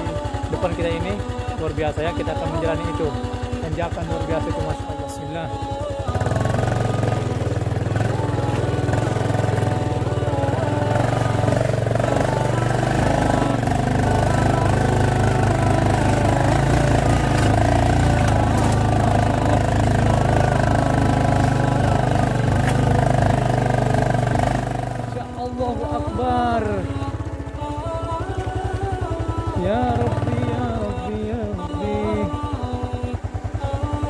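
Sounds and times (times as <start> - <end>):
small motorcycle engine running: 0.0 - 34.0.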